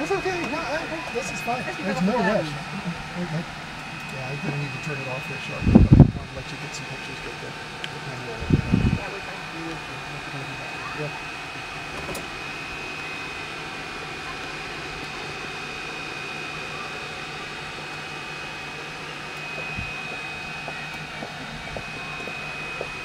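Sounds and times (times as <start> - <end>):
high-pitched whine: 0.0 - 23.0
machine hum and whir: 0.0 - 23.0.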